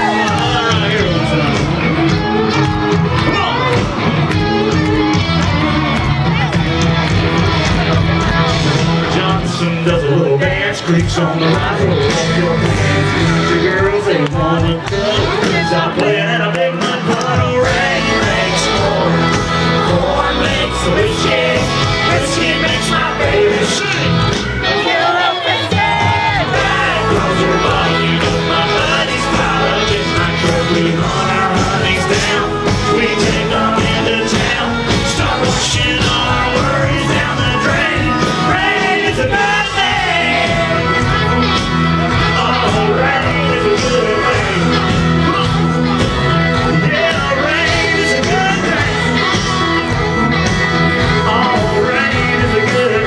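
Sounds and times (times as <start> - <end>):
man singing lead vocal: 0.0 - 6.2, 8.2 - 53.0
live country-rock band: 0.0 - 53.0.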